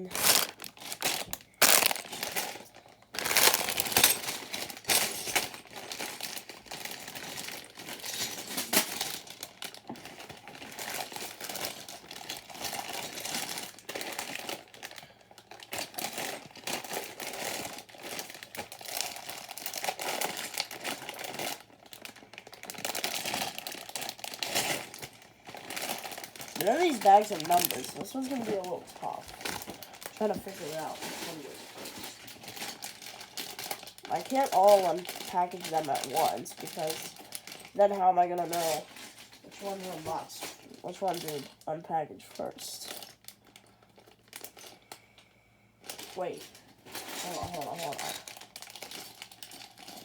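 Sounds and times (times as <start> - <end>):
plastic bags crinkling: 0.0 - 50.0.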